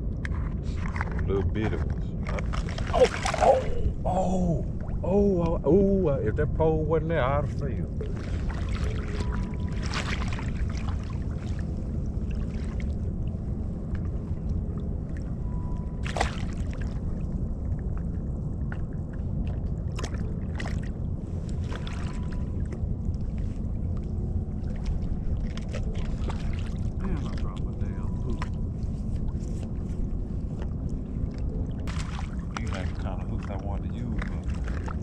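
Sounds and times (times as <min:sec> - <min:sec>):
shallow water: 0:00.0 - 0:35.0
wind rumble: 0:00.0 - 0:35.0.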